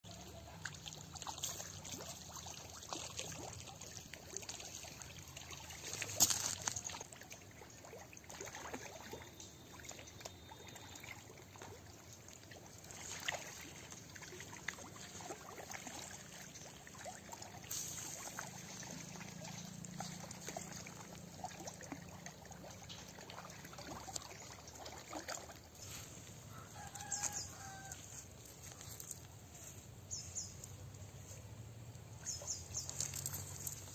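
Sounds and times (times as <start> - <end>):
water splashing and trickling: 0.0 - 33.9.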